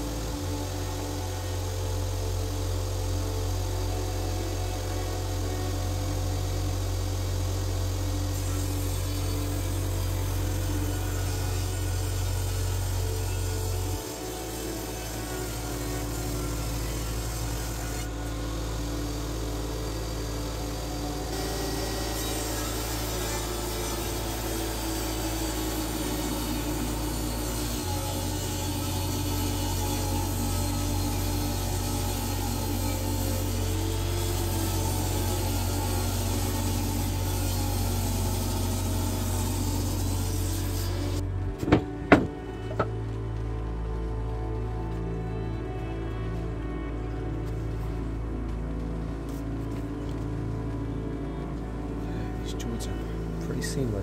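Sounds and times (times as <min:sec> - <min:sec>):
jointer machine humming: 0:00.0 - 0:54.0.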